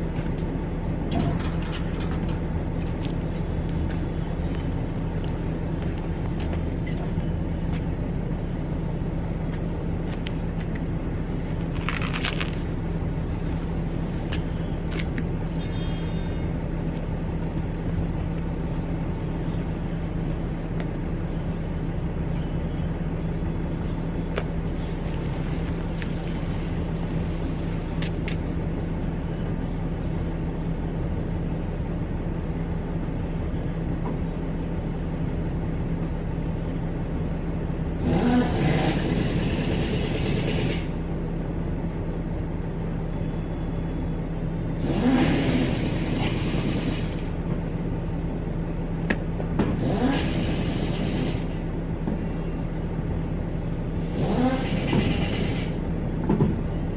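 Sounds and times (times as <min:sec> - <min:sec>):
low mechanical hum: 0:00.0 - 0:56.9.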